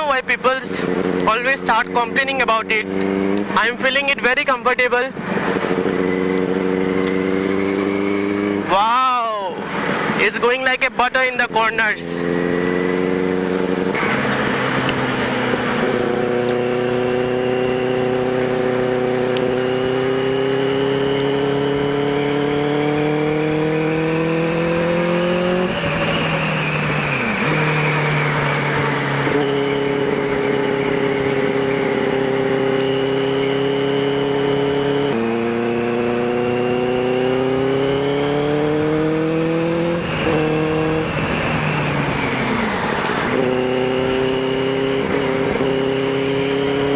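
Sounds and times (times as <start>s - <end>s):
motorcycle engine revving through gears: 0.0s - 4.5s, 5.2s - 8.8s, 12.0s - 46.9s.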